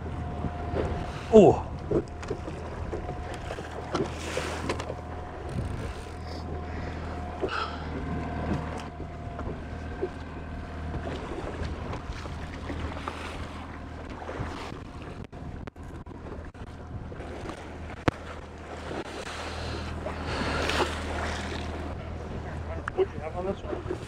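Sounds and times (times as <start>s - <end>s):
wind on microphone: 0.0s - 10.1s, 10.8s - 24.0s
low motor hum: 0.0s - 24.0s
waves splashing against hull: 0.0s - 24.0s.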